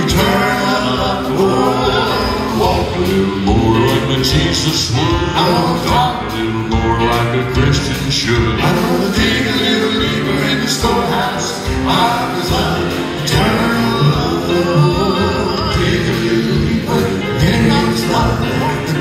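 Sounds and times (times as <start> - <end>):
instrumental backing: 0.0 - 19.0
male quartet singing gospel: 0.0 - 19.0.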